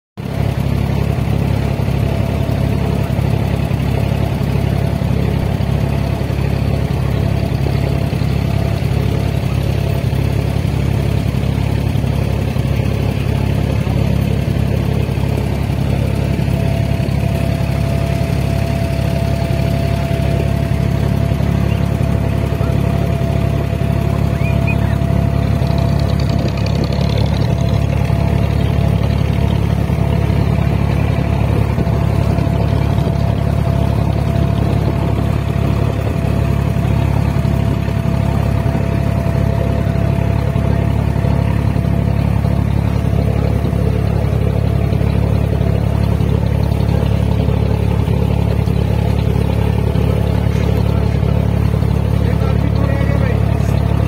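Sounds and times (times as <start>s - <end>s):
boat engine droning: 0.2s - 54.0s.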